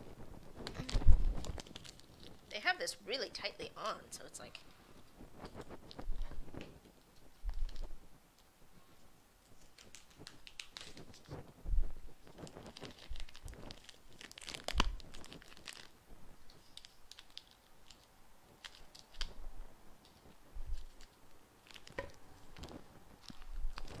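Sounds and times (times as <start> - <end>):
plastic sheet crinkling: 0.0 - 3.4, 4.4 - 8.5, 9.4 - 24.0.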